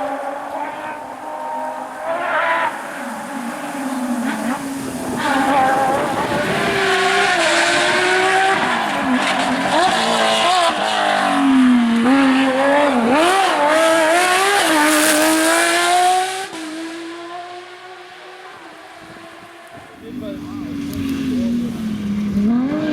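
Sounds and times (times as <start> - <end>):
rally car engine at full throttle: 0.0 - 22.9.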